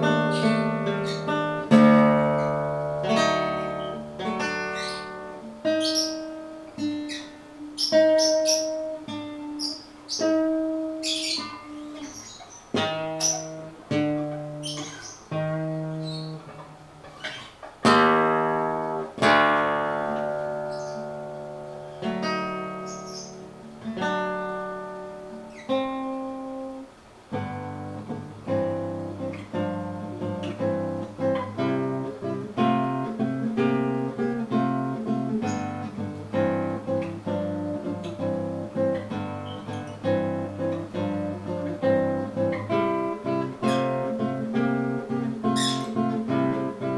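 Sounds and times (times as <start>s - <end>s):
acoustic guitar playing: 0.0s - 46.9s.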